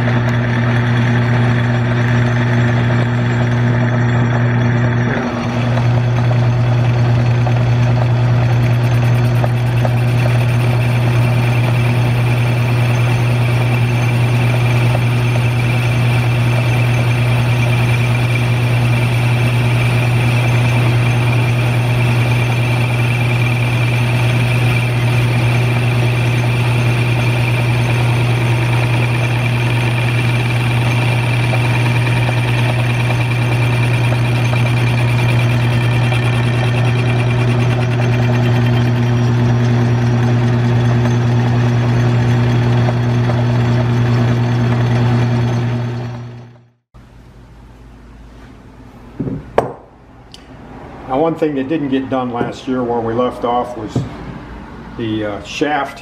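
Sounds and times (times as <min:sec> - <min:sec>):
lathe motor humming: 0:00.0 - 0:46.7
lathe tool cutting metal: 0:00.0 - 0:46.7.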